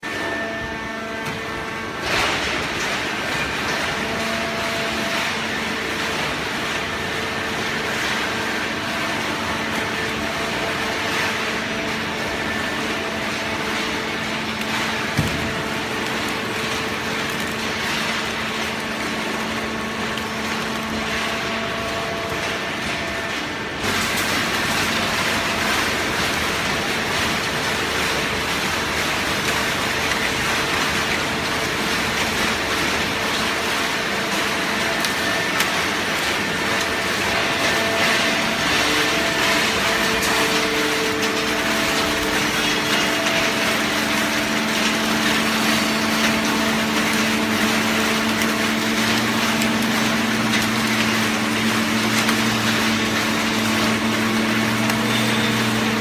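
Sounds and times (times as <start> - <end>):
baler machine humming: 0.1 - 56.0.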